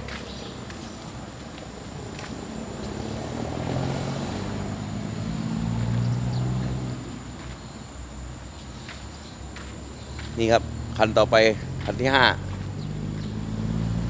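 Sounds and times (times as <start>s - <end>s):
heavy diesel engine passing: 0.0s - 14.0s.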